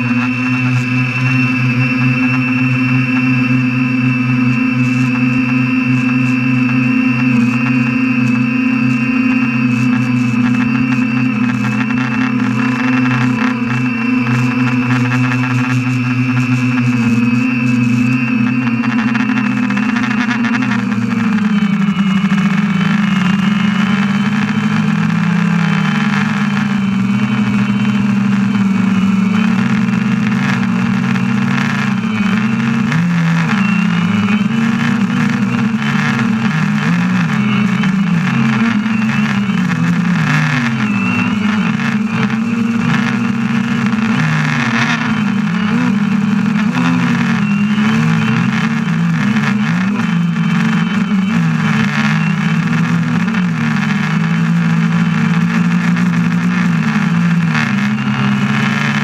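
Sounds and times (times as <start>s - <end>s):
drone propellers humming: 0.0s - 59.0s.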